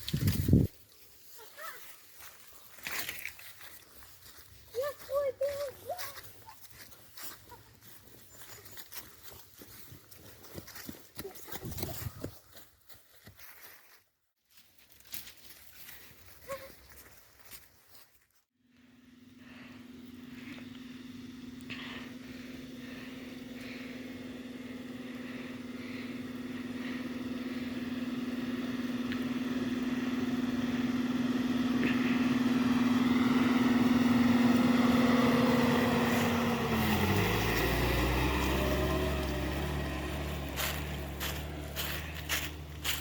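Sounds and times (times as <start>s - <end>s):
vehicle engine approaching: 0.0s - 12.6s, 18.7s - 43.0s.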